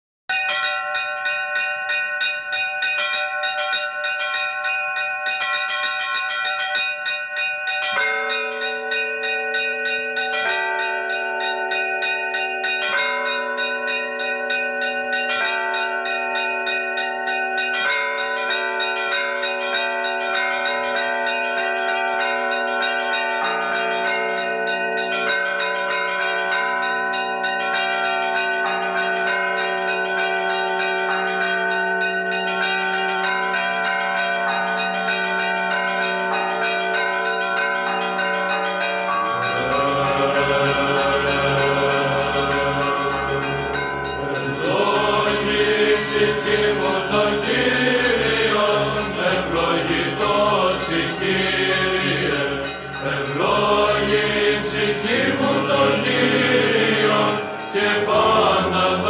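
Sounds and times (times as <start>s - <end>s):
church bells pealing: 0.3s - 59.0s.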